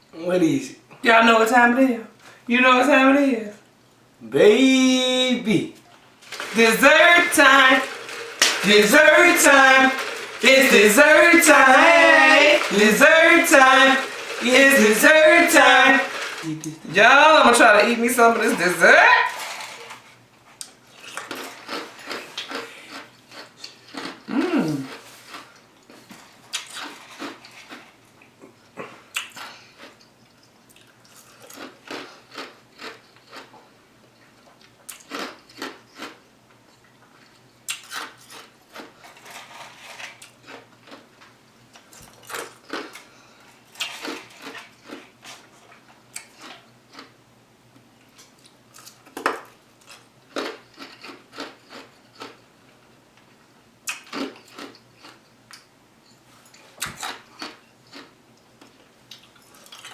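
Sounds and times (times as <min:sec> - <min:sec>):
chewing and crunching: 0:06.2 - 0:18.8, 0:19.4 - 0:28.3, 0:28.9 - 0:47.2, 0:48.0 - 0:52.5, 0:53.9 - 0:59.9.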